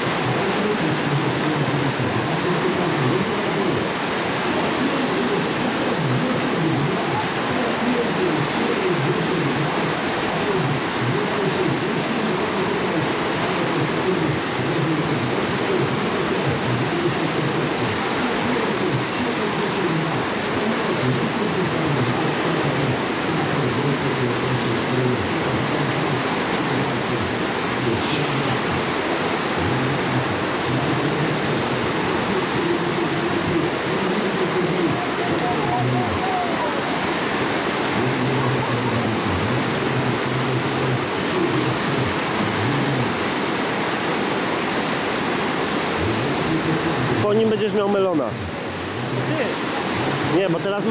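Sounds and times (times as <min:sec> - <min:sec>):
whitewater rapids rushing: 0:00.0 - 0:50.9.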